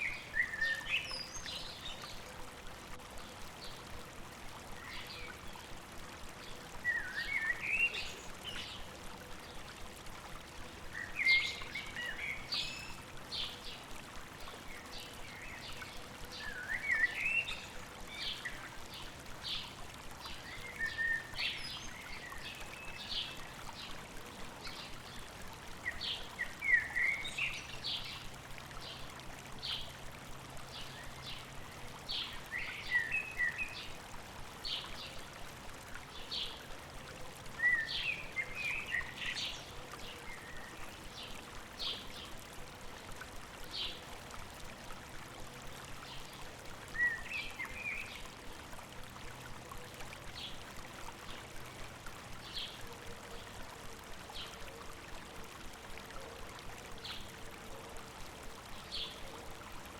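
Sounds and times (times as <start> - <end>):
running stream water: 0.0 - 59.9
songbirds singing: 0.0 - 59.9.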